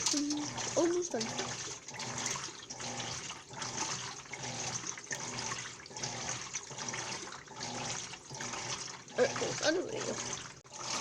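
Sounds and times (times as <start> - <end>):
motor hum: 0.0 - 11.0
water sloshing in washing machine: 0.0 - 11.0.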